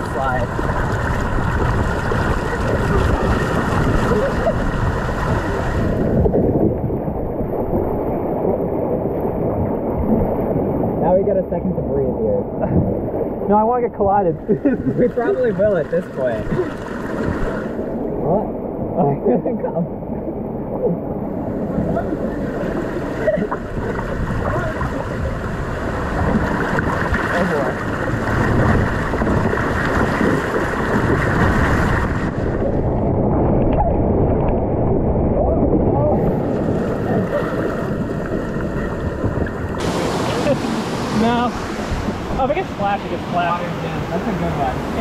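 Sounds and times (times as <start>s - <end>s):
water rushing and splashing: 0.0s - 45.0s.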